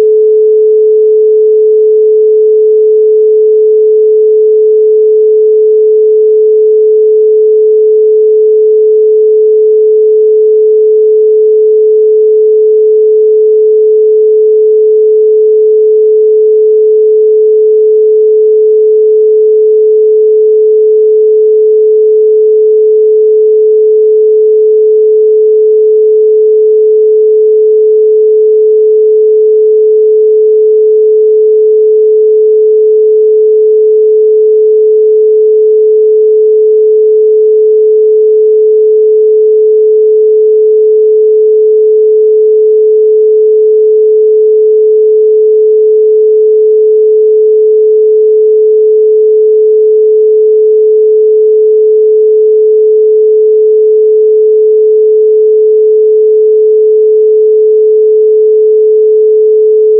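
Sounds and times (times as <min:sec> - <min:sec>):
pure sine tone: 0:00.0 - 0:59.9.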